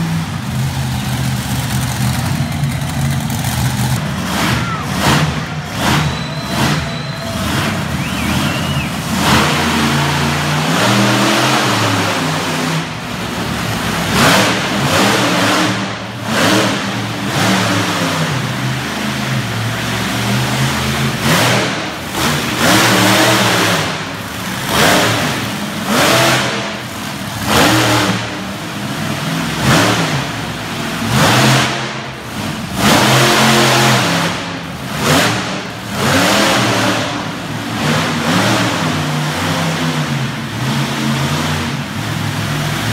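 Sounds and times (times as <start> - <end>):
monster truck engine revving: 0.0 - 42.9.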